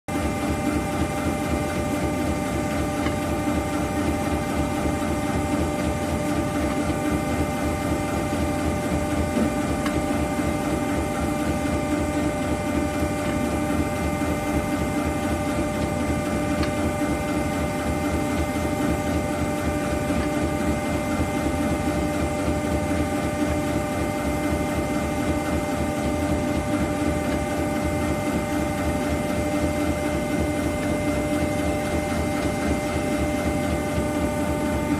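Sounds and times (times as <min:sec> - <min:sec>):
industrial machinery hum: 0:00.1 - 0:34.9.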